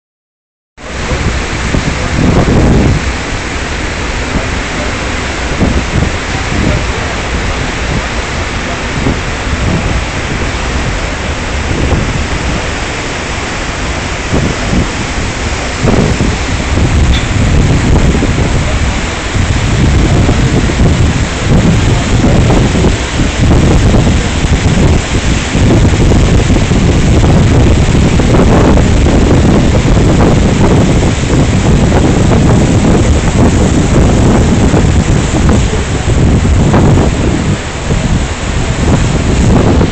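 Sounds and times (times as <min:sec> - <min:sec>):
churning water: 0:00.8 - 0:39.9
wind on microphone: 0:00.8 - 0:39.9.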